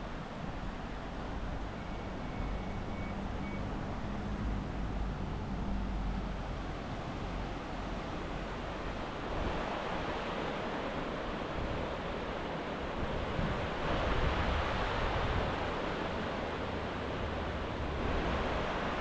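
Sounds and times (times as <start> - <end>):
water rushing: 3.2 - 19.0.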